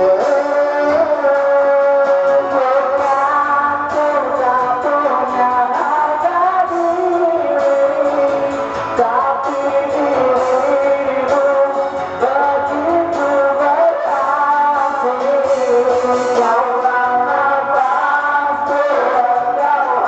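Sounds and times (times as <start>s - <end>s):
guitar accompaniment: 0.0s - 20.0s
man singing into a microphone: 0.0s - 20.0s.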